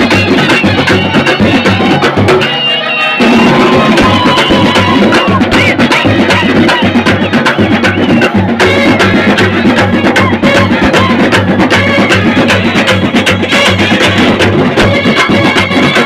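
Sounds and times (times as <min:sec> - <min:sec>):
brass band playing: 0:00.0 - 0:16.0
snare and bass drum beats: 0:00.0 - 0:16.0.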